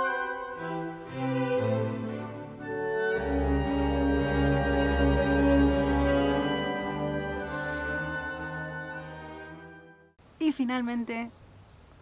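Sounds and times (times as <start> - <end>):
orchestral music with held chords: 0.0 - 10.2.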